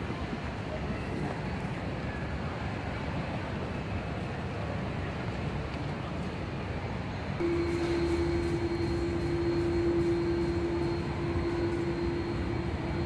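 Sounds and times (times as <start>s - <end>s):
airport terminal hall ambience: 0.0s - 13.0s.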